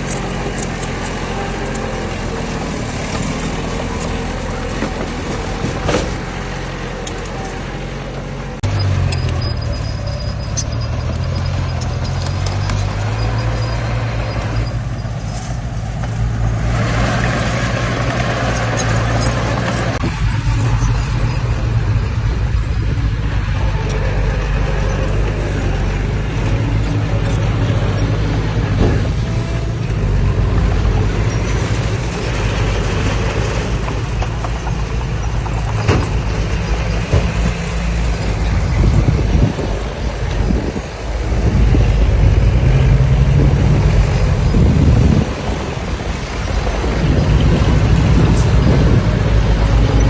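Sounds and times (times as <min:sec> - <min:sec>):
heavy diesel machinery running: 0:00.0 - 0:50.0.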